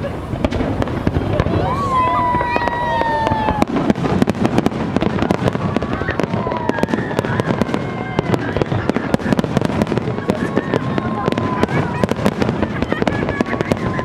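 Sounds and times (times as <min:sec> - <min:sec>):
faint whistling fireworks: 0:00.0 - 0:14.0
fireworks bangs and crackles: 0:00.0 - 0:14.0.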